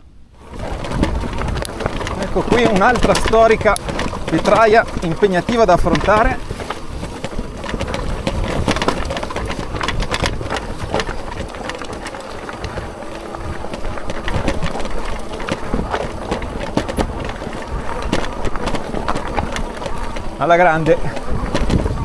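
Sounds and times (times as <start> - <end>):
bike tyres rolling on stony trail: 0.0 - 22.0.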